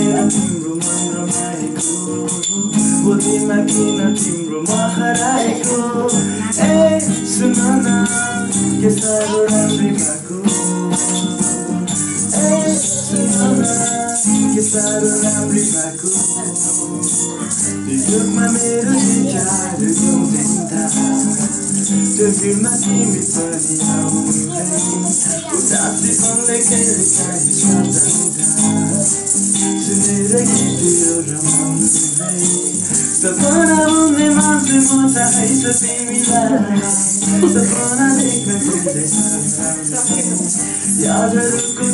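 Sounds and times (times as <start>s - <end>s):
acoustic guitar strumming: 0.0s - 41.9s
small bells shaken: 0.0s - 41.9s
young man singing: 0.0s - 41.9s.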